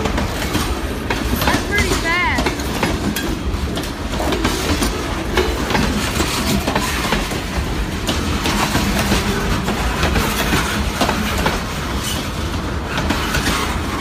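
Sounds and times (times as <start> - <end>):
train wheels rumbling on rail: 0.0 - 14.0
wheels clicking over rail joints: 0.0 - 14.0.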